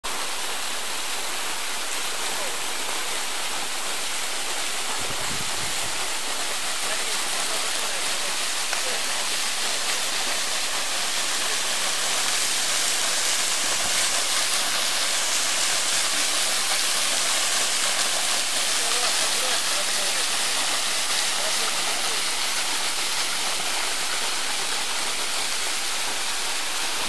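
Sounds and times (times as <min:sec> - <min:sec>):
waterfall splashing on rocks: 0:00.1 - 0:27.0.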